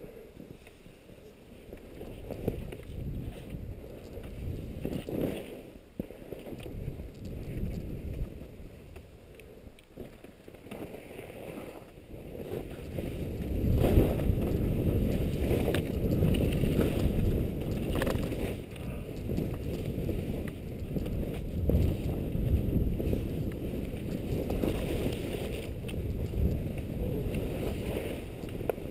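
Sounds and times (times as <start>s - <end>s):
skis scraping over snow: 0.1s - 28.9s
wind rumbling over microphone: 1.6s - 28.9s.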